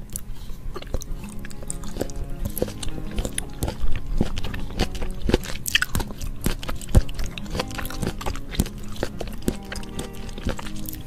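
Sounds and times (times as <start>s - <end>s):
close chewing mouth clicks: 0.0s - 11.0s.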